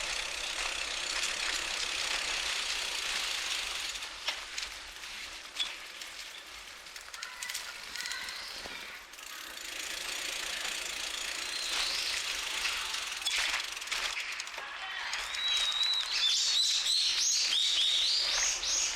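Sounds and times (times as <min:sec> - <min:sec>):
bicycle tyres rolling on pavement: 0:00.0 - 0:18.9
bike rattles and clicks: 0:00.0 - 0:18.9.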